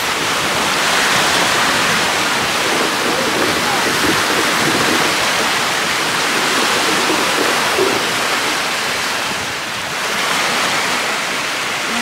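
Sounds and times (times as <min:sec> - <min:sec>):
lake waves washing ashore: 0:00.0 - 0:12.0.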